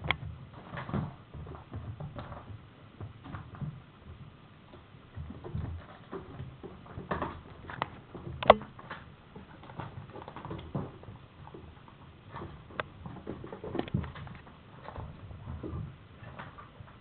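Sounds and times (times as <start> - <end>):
small knocks: 0.0 - 17.0.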